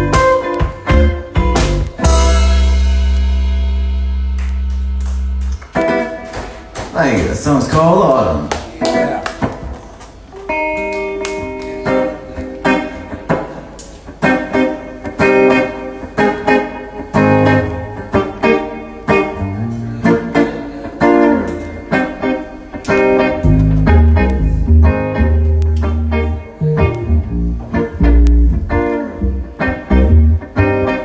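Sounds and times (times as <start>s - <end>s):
electric guitar chords: 0.0s - 6.8s, 8.9s - 31.0s.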